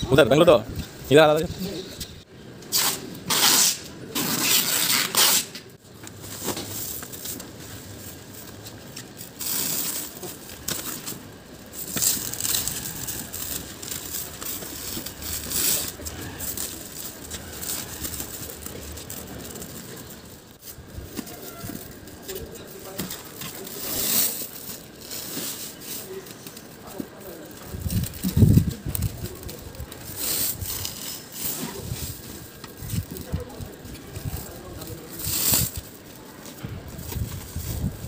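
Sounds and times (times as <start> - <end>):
plastic stretch film crackling: 2.7 - 38.0.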